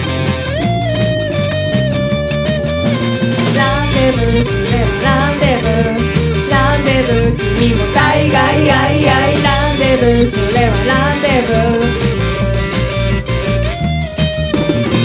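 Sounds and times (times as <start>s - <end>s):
bass guitar: 0.0s - 15.0s
drum kit: 0.0s - 15.0s
electric guitar: 0.0s - 15.0s
sliding lead melody: 0.0s - 15.0s.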